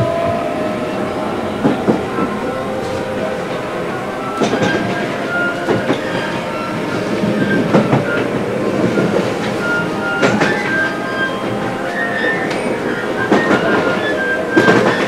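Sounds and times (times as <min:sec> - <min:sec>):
high wheel squeals: 0:00.0 - 0:15.0
train running noise: 0:00.0 - 0:15.0
wheels clacking over rail joints: 0:00.0 - 0:15.0.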